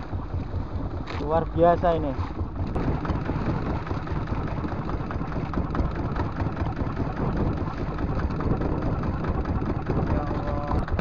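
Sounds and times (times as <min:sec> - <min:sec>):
boat diesel engine idling: 0:00.0 - 0:11.0.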